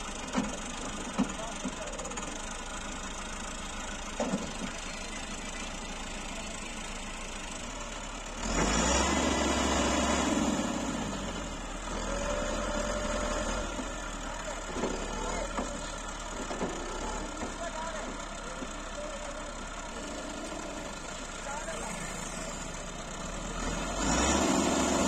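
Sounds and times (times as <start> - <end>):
tractor diesel engine working hard: 0.0 - 25.0.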